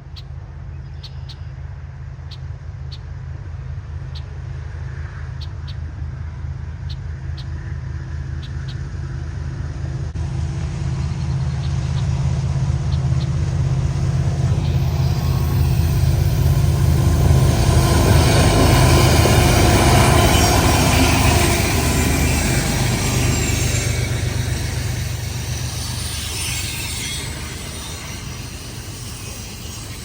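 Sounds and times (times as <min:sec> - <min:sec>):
diesel locomotive engine rumble: 0:00.0 - 0:30.0
train rushing noise: 0:00.0 - 0:30.0.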